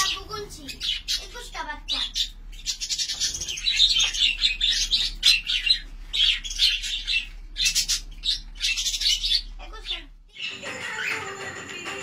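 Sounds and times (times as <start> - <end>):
budgerigars chattering: 0.0 - 11.4.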